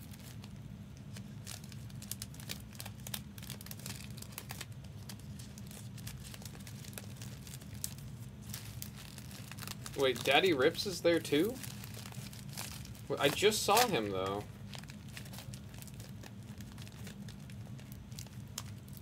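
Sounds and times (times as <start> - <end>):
packaging crinkling: 0.0 - 19.0
steady low hum: 0.0 - 19.0.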